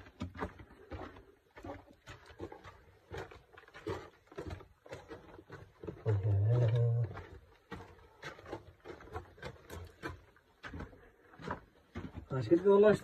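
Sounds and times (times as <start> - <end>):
footsteps crunching on dry earth: 0.0 - 13.0.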